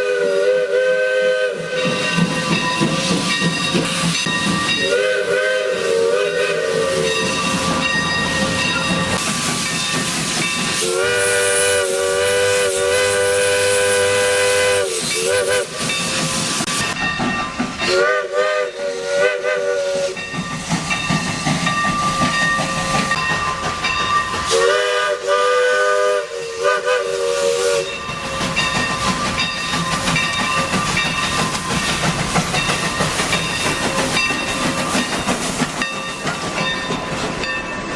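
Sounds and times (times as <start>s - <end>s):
hiss of steam: 0.0s - 17.0s, 17.6s - 36.7s
steam locomotive chime whistle: 0.0s - 35.2s.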